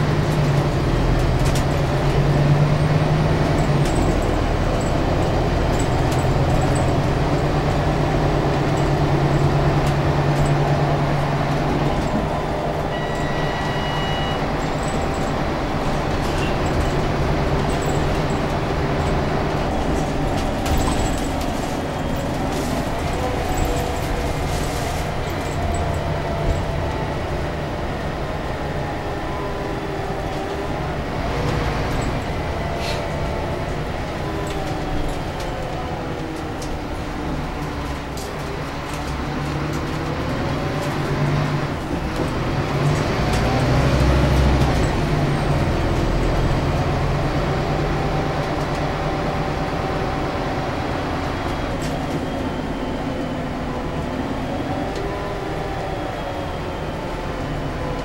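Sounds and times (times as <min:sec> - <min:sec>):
bus engine and transmission whine: 0:00.0 - 0:58.0
road noise rumble: 0:00.0 - 0:58.0.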